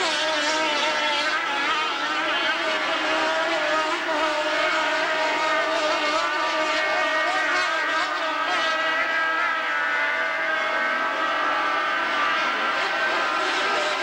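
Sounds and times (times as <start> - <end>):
powerboat engines at high revs: 0.0 - 14.0.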